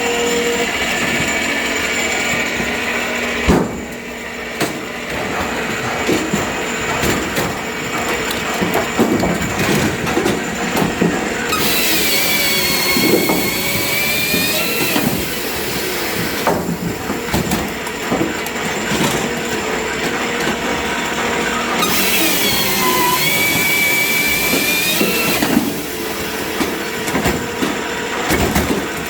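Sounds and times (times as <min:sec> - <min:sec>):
firewood processing machinery: 0:00.0 - 0:29.0.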